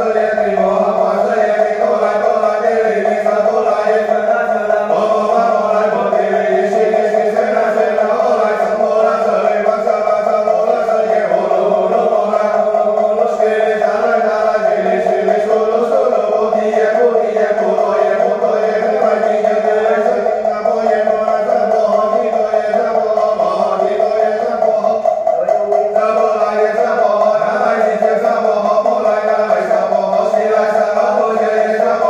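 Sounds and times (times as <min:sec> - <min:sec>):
voices chanting in monotone: 0:00.0 - 0:32.0.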